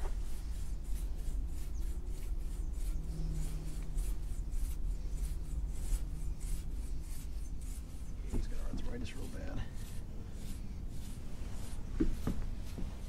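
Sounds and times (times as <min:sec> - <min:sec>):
brush rubbing through dog fur: 0:00.0 - 0:13.0.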